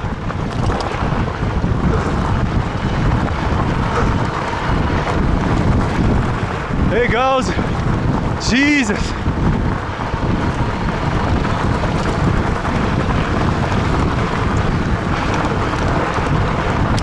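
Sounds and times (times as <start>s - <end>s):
bike tyres on trail: 0.0s - 17.0s
wind buffeting microphone: 0.0s - 17.0s.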